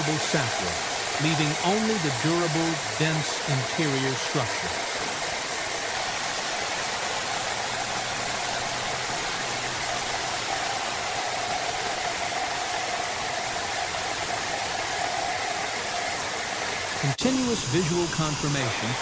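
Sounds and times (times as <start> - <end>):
bandsaw running: 0.0 - 19.0.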